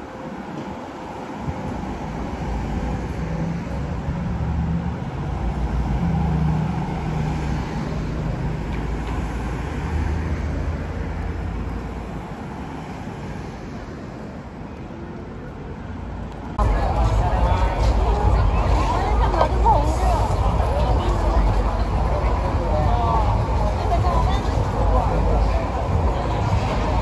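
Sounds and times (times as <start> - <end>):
vehicle engine rumble: 0.7 - 27.0.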